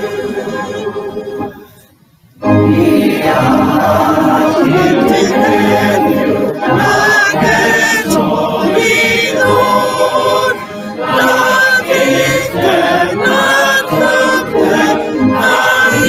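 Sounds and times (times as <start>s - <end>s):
congregation singing a hymn: 0.0s - 1.8s, 2.4s - 16.0s.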